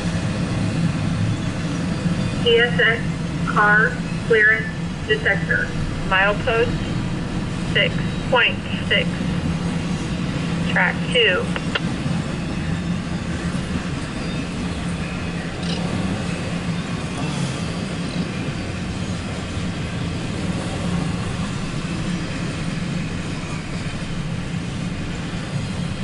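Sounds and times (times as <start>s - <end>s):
freight train cars rumbling on rails: 0.0s - 26.0s.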